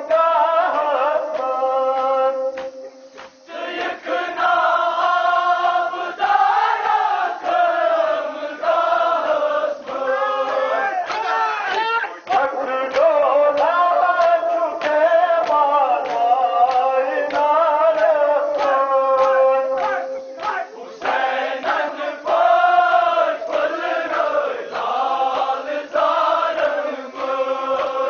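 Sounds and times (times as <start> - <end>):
group chanting mourning elegy: 0.0 - 28.0.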